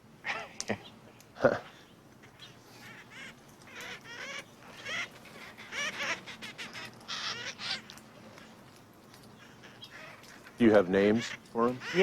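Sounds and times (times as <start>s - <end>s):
parakeets screeching: 1.6s - 12.0s.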